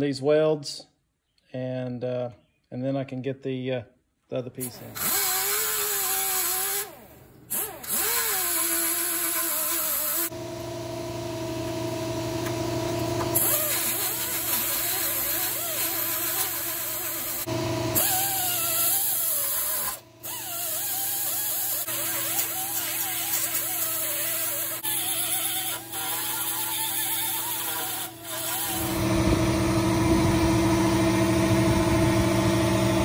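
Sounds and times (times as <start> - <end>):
pneumatic die grinder whining: 4.6 - 33.0.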